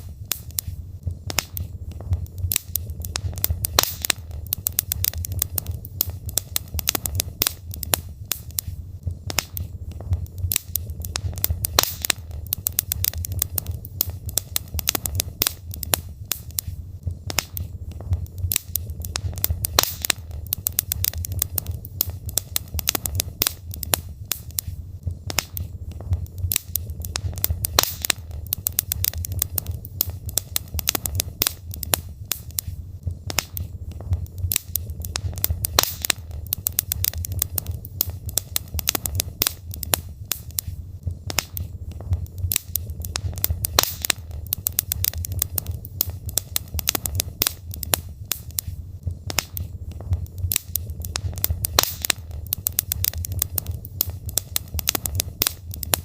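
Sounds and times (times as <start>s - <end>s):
logs crackling and popping: 0.0s - 56.0s
low rumble of fire: 0.0s - 56.0s.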